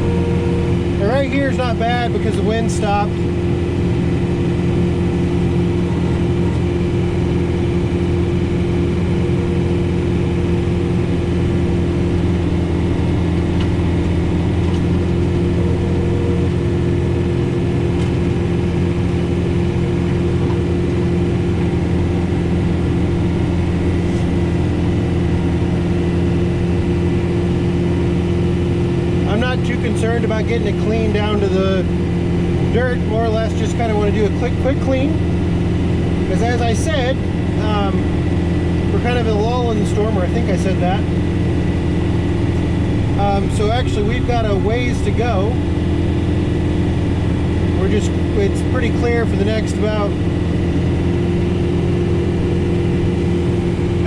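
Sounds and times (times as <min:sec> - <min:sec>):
tractor diesel engine hum: 0:00.0 - 0:54.0.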